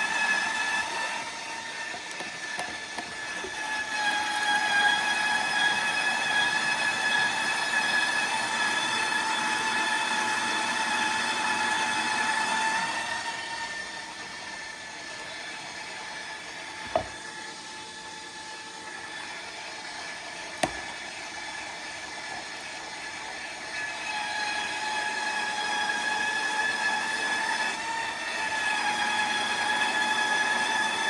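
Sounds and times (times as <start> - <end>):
rotary grater shredding cheese: 0.0 - 16.4, 18.8 - 31.0
stand mixer motor whine: 0.0 - 31.0.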